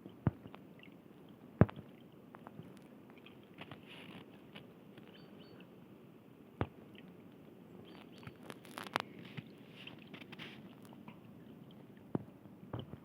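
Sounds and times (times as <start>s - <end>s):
soft ticks and crackles: 0.0s - 5.9s, 6.6s - 13.0s.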